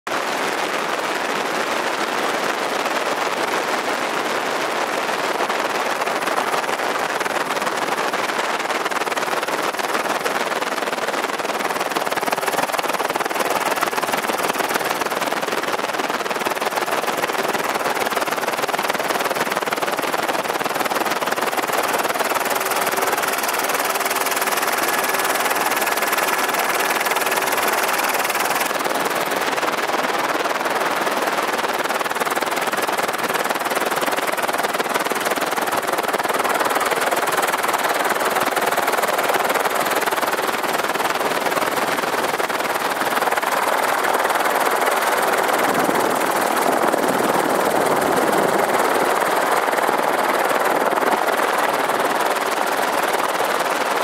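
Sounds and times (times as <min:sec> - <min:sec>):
aircraft rotor noise: 0:06.0 - 0:54.0.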